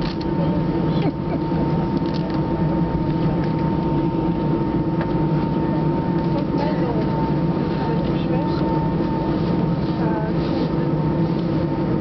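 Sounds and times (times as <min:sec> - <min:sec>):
jet engines idling hum: 0:00.0 - 0:12.0
thin constant whine: 0:00.0 - 0:12.0.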